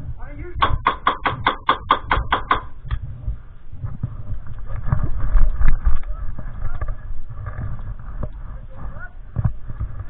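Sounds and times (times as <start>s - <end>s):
wind and handling rumble: 0.0s - 10.0s.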